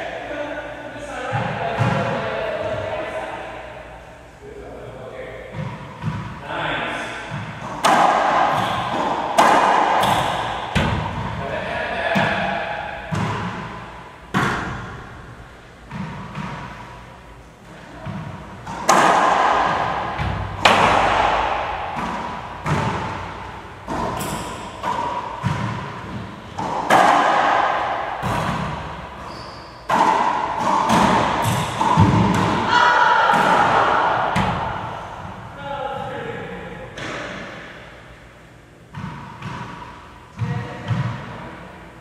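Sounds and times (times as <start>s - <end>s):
racquetball hits echoing: 1.1s - 3.5s, 5.5s - 38.2s, 38.8s - 41.7s.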